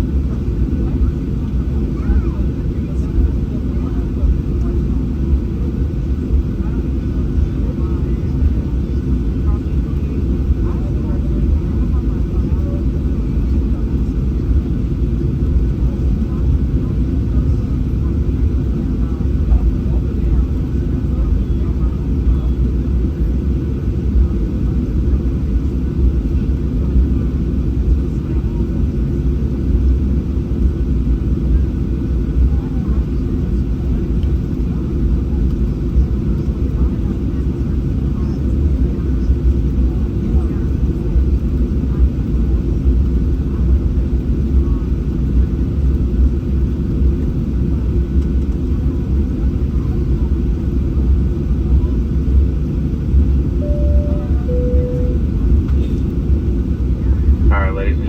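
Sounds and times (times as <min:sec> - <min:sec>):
jet engines low rumble: 0:00.0 - 0:58.0.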